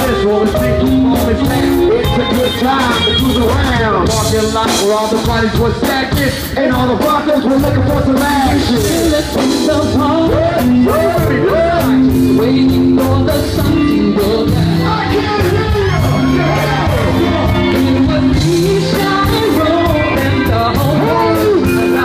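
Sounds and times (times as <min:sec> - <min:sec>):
live band playing funky groove: 0:00.0 - 0:22.0
person singing: 0:00.0 - 0:22.0.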